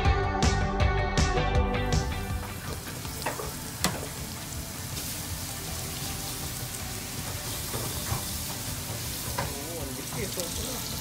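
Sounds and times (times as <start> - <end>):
food sizzling in hot oil: 1.8 - 11.0.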